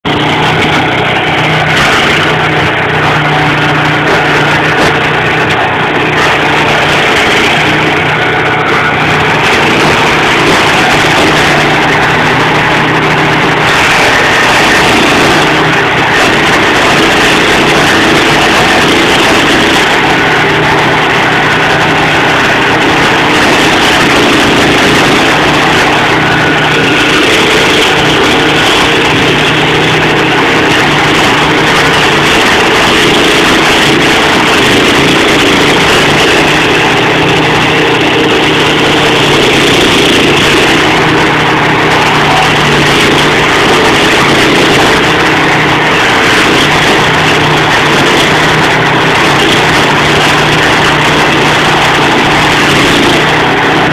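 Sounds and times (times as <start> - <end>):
stump grinder engine running: 0.0 - 53.9.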